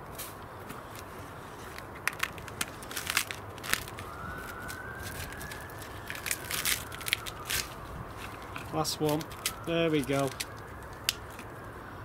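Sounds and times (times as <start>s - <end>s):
corn husks crackling and snapping: 0.0s - 11.6s.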